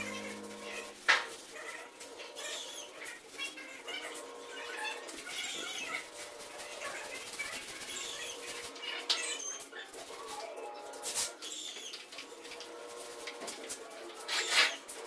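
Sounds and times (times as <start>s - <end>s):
paint roller on a wall: 0.0s - 15.0s.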